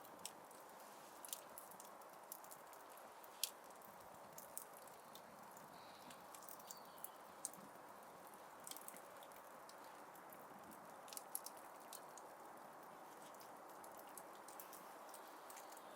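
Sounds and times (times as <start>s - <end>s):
fire crackling in fireplace: 0.0s - 15.9s.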